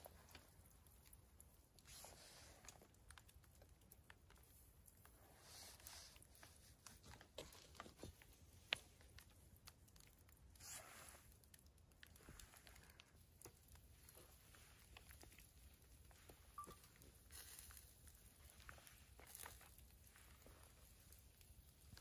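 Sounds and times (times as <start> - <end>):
wood fire ticking and crackling: 0.0 - 22.0.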